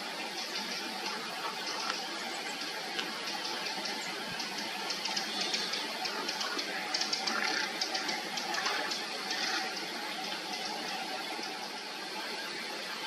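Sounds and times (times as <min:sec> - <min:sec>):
flowing river water: 0:00.0 - 0:13.0
small crisp ticks and clicks: 0:00.4 - 0:11.6.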